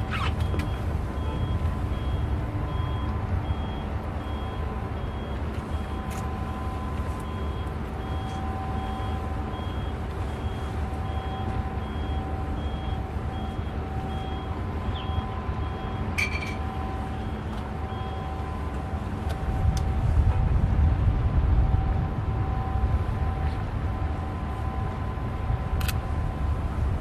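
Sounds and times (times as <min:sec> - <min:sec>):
reversing alarm beeping: 0:00.0 - 0:20.2, 0:21.6 - 0:25.9
engine rumble and hum: 0:00.0 - 0:27.0.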